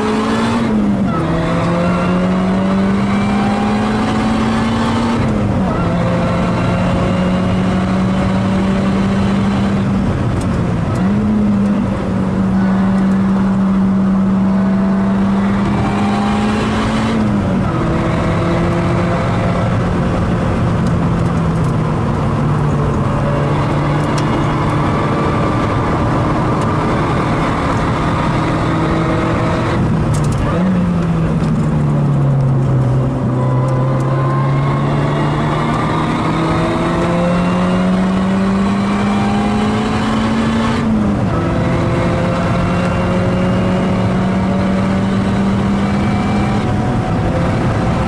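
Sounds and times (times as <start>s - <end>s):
car engine under load: 0.0s - 48.0s.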